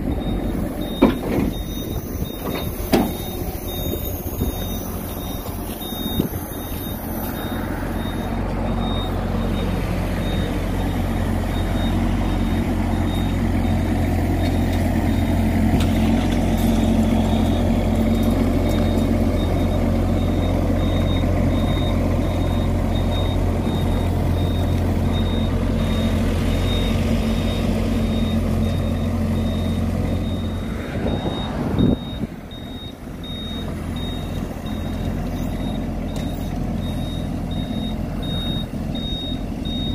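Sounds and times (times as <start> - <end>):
diesel engine running: 0.0 - 39.9
travel alarm beeping: 0.2 - 13.8, 17.3 - 39.9.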